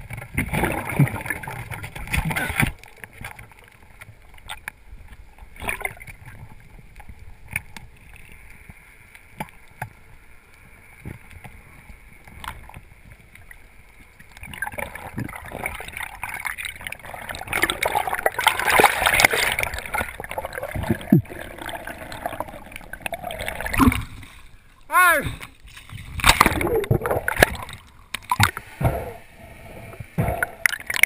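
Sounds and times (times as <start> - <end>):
underwater low rumble: 2.8 - 31.0
rushing water: 5.3 - 31.0.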